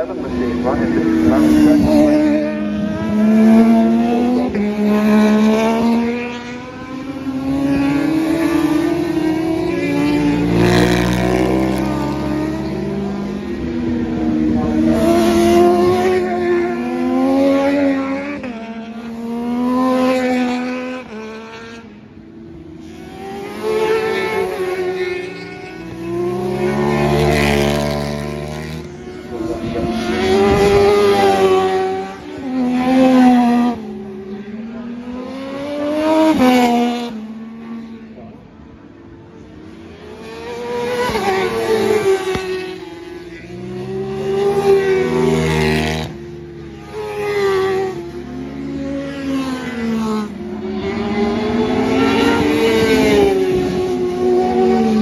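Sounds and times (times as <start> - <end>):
racing motorcycles passing: 0.0 - 55.0.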